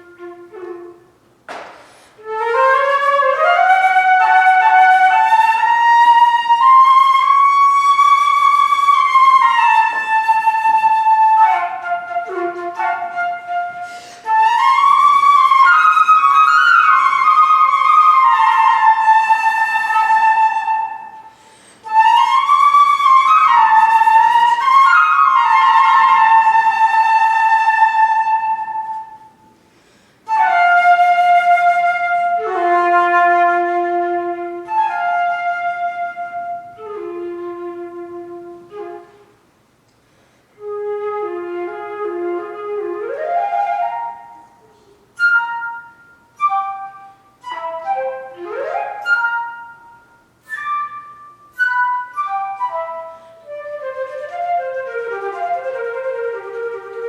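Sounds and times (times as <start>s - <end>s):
solo flute with bending notes: 0.0s - 1.2s, 2.2s - 29.6s, 30.3s - 39.4s, 40.6s - 57.0s.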